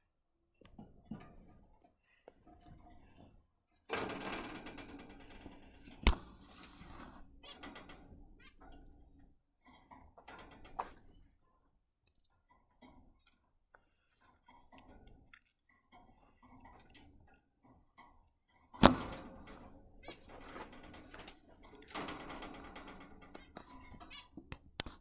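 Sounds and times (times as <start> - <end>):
faint clicks and taps in cage: 0.6 - 25.0.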